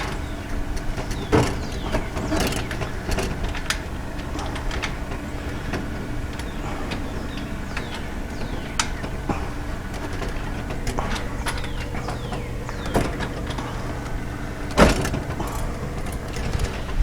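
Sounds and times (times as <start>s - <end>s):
bolts and parts clicking: 0.0s - 17.0s
steady low hum: 0.0s - 17.0s.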